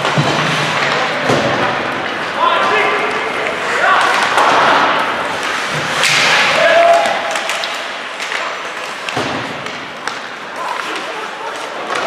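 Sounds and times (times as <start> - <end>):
hockey sticks clacking: 0.0 - 12.0
skates scraping on ice: 0.0 - 12.0.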